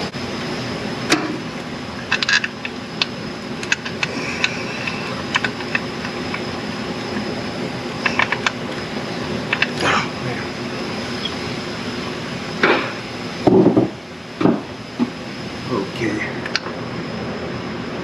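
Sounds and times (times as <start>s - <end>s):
workshop background hum: 0.0s - 18.0s.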